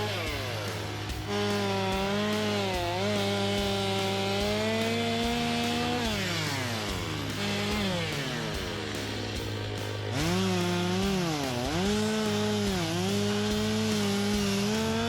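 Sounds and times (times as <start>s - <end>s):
electric chainsaw motor whine: 0.0s - 15.0s.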